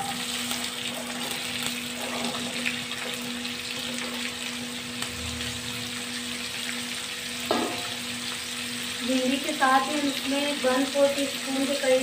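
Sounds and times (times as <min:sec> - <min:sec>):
okra sizzling in hot oil: 0:00.0 - 0:12.0.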